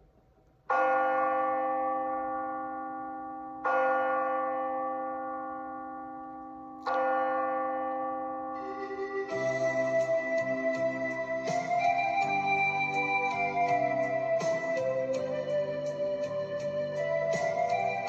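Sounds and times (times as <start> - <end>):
church bell ringing: 0.7 - 18.0.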